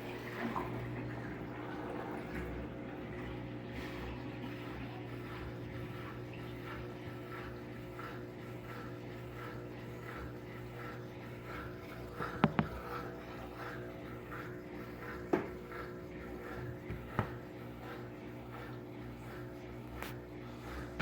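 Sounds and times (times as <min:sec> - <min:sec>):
soft swish of washing: 0:00.0 - 0:21.0
washing machine motor hum: 0:00.0 - 0:21.0.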